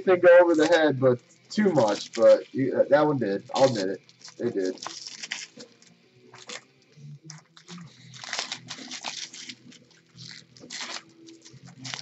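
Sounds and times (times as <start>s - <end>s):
foil wrappers crinkling: 0.2s - 12.0s
cards being handled: 0.5s - 0.8s, 1.5s - 2.6s, 3.5s - 12.0s.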